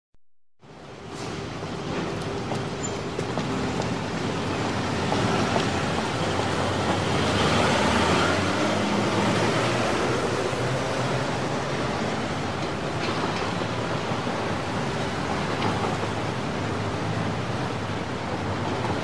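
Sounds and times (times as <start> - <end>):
heavy traffic rumble: 0.6 - 19.0.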